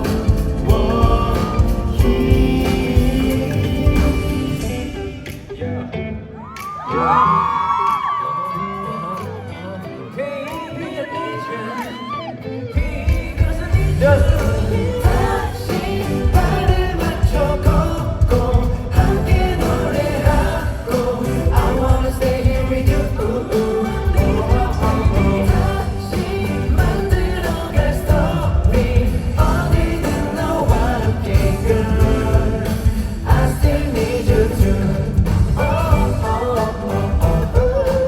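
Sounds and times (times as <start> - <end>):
pop song with male singing: 0.0 - 38.0.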